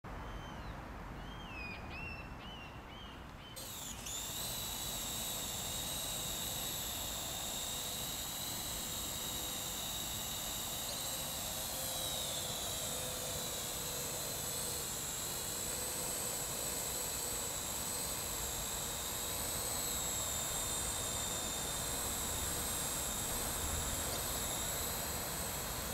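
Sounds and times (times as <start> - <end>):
drone motors whining: 3.6 - 25.9.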